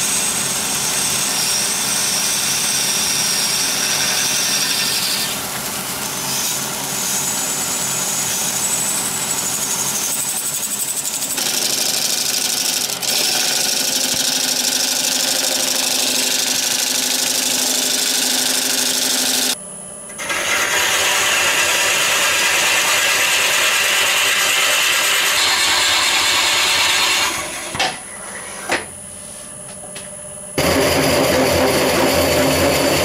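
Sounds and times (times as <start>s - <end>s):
woodturning lathe hum with hiss: 0.0s - 33.0s.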